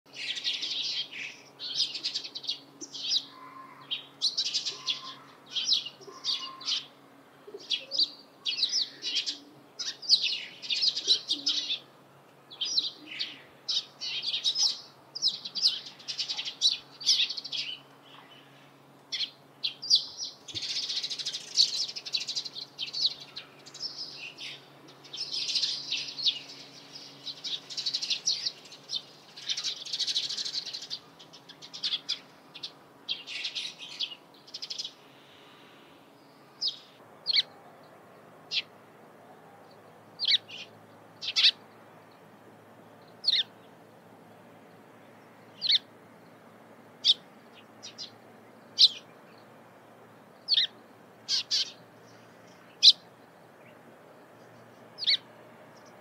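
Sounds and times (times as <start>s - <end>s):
sparrows chirping: 0.1s - 56.0s.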